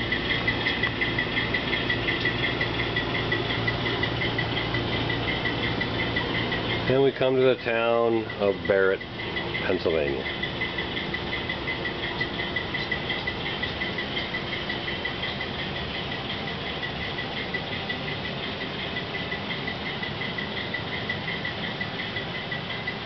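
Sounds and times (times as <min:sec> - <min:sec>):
pulsing engine buzz from small speaker: 0:00.0 - 0:23.0.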